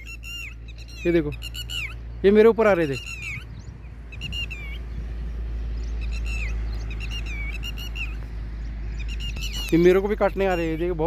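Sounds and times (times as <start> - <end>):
lapwings shrill alarm calls: 0.0 - 4.8, 6.0 - 8.3, 9.0 - 10.9.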